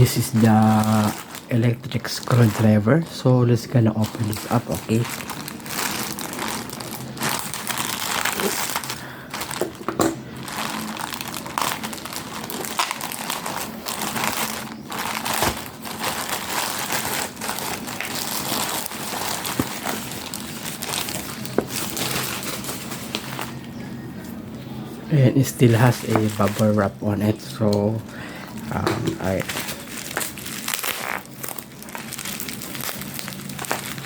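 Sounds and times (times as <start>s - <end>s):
plastic packaging crinkling: 0.0s - 24.3s, 25.4s - 34.0s.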